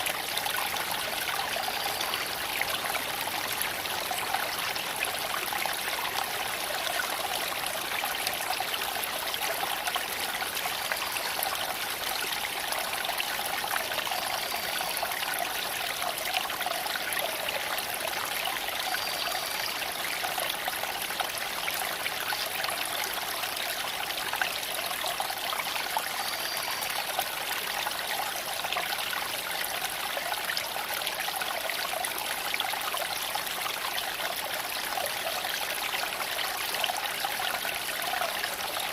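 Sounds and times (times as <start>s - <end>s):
creek water flowing over stones: 0.0s - 38.9s.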